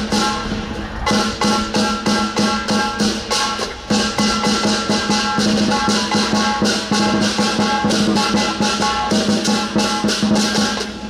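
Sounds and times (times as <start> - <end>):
gong ringing: 0.0 - 10.9
cymbals clashing: 0.0 - 11.0
drum beating: 0.0 - 11.0.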